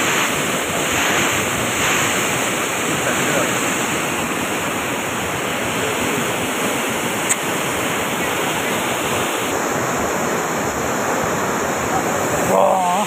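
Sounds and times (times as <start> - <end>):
floodwater rushing through channel: 0.0 - 13.0.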